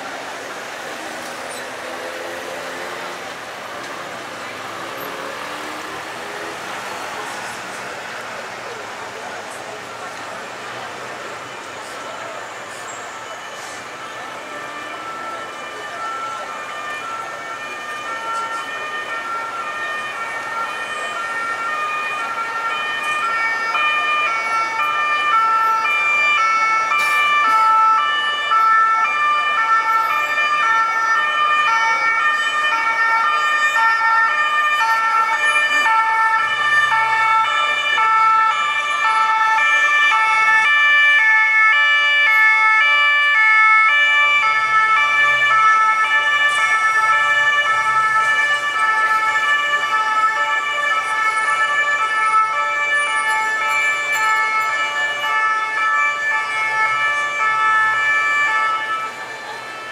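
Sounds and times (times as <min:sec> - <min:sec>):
two-tone emergency siren: 0:00.0 - 0:59.9.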